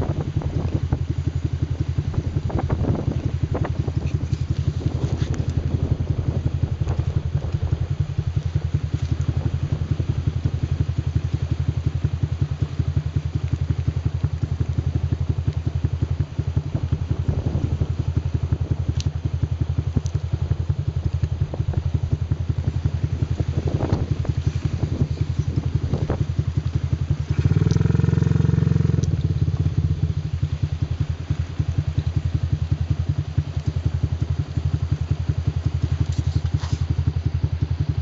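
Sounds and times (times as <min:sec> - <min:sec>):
buggy engine idling: 0:00.0 - 0:38.0.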